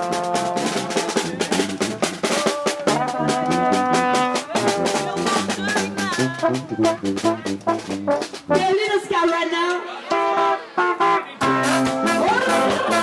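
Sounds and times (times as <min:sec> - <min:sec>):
held horn notes: 0:00.0 - 0:02.2, 0:02.9 - 0:08.8, 0:10.1 - 0:13.0
drum kit snare and rimshots: 0:00.0 - 0:09.0, 0:11.4 - 0:13.0
funk band playing: 0:00.0 - 0:13.0.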